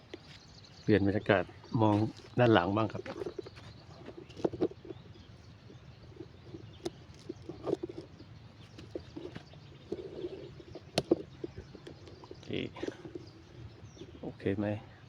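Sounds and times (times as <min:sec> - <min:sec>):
birds calling: 0:00.0 - 0:15.0
dove cooing: 0:02.1 - 0:14.4.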